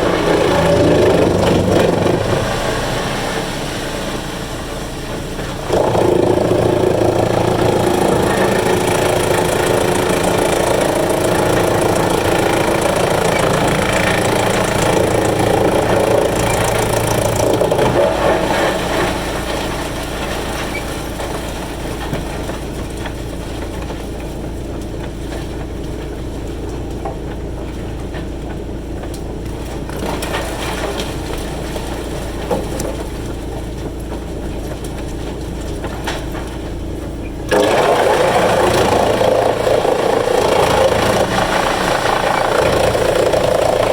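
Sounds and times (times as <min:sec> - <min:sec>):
wood chipper grinding: 0:00.0 - 0:43.9.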